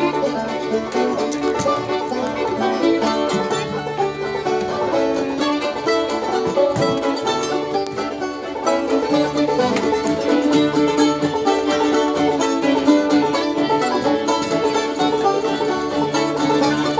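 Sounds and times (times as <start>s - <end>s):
acoustic guitar: 0.0s - 16.9s
fiddle: 0.0s - 16.9s
mandolin: 0.0s - 16.9s.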